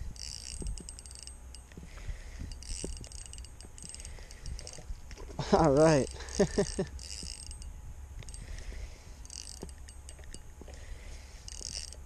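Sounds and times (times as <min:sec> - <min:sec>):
fishing reel gears whirring: 0:00.0 - 0:12.0.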